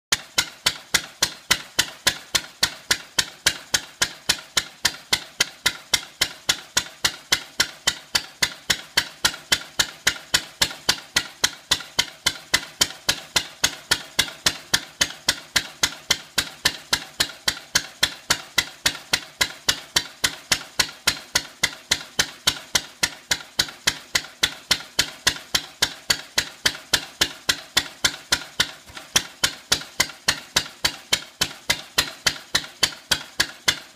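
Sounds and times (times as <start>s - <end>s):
stationary petrol engine firing: 0.1s - 33.9s.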